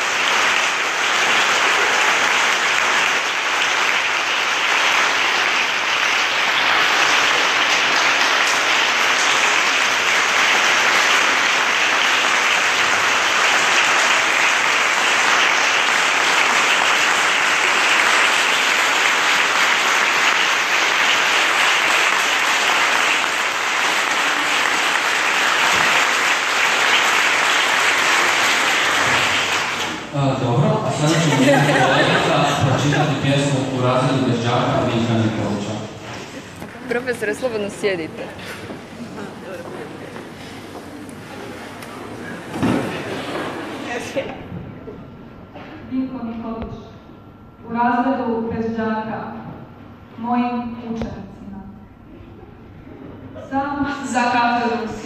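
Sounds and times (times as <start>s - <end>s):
large audience applauding: 0.0s - 44.2s.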